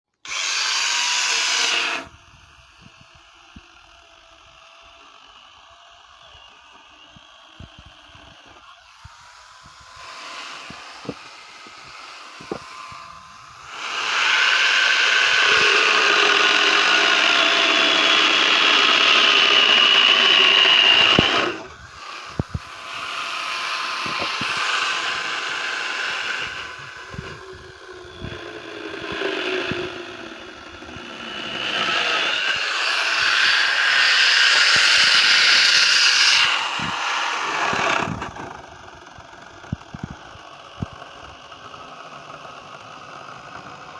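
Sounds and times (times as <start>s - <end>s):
angle grinder chainsaw cutting wood: 0.1s - 43.9s.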